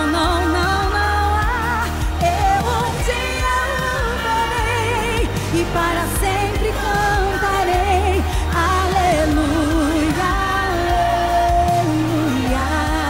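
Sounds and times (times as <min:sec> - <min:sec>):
bass and drum accompaniment: 0:00.0 - 0:13.0
woman singing gospel song: 0:00.0 - 0:13.0.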